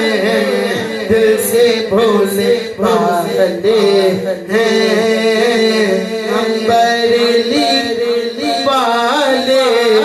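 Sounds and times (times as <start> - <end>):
men singing devotional song: 0.0 - 10.0.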